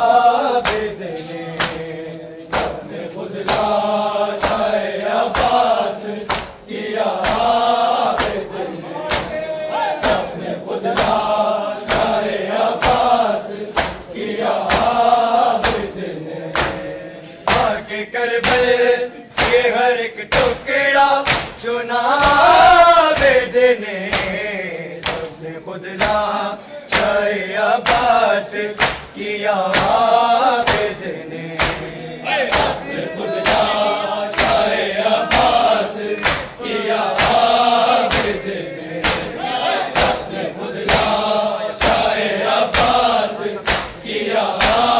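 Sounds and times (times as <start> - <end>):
men chanting in chorus: 0.0 - 44.9
chest beating slaps: 0.5 - 25.4, 26.0 - 26.3, 26.9 - 44.9.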